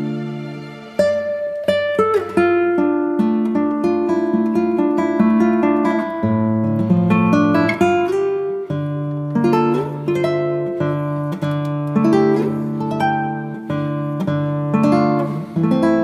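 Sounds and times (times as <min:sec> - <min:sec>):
plucked acoustic guitar music: 0:00.0 - 0:16.0.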